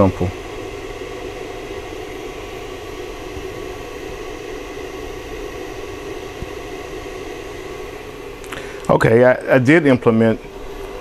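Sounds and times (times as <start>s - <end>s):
even hum: 0.0s - 11.0s
fan whirring hiss: 0.0s - 11.0s.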